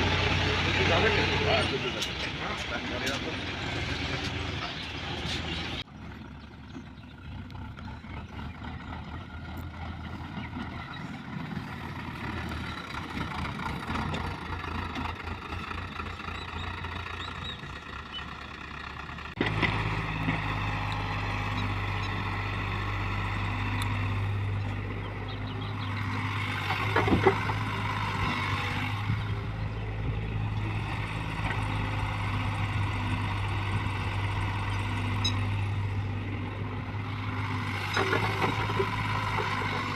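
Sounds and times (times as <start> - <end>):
diesel engines running: 0.0 - 39.9
loud engine with deep hum: 0.0 - 39.9.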